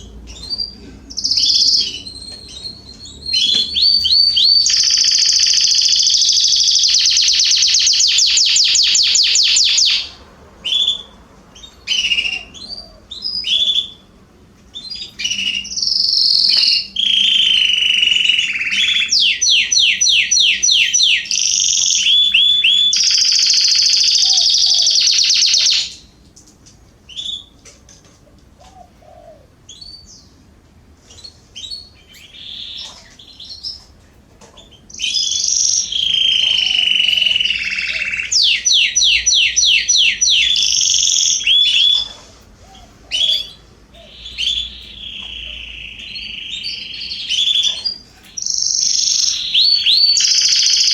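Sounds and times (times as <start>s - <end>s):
canaries trilling: 0.0s - 26.2s, 27.1s - 50.9s.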